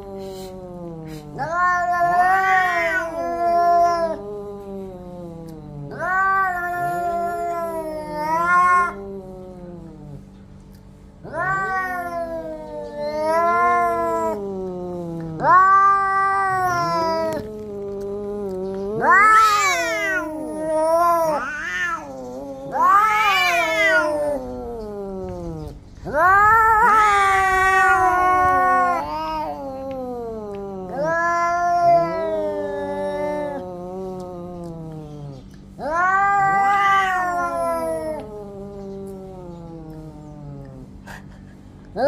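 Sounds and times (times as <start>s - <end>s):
cats yowling: 0.0s - 10.3s, 11.2s - 42.0s.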